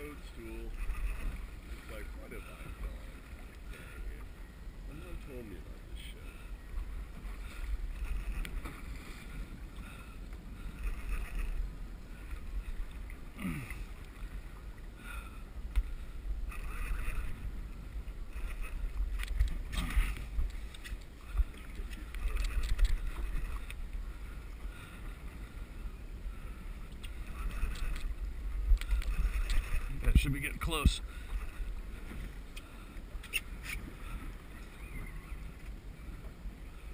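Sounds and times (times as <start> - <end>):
water lapping against boat hull: 0.0 - 36.9
wind rumble on microphone: 0.0 - 36.9.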